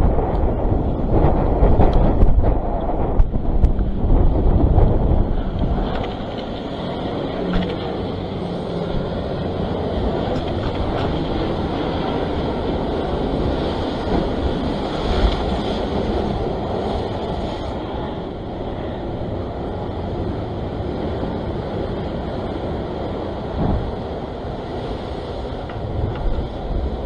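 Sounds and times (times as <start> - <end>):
surf washing against rocks: 0.0 - 27.0
wind buffeting microphone: 0.0 - 27.0.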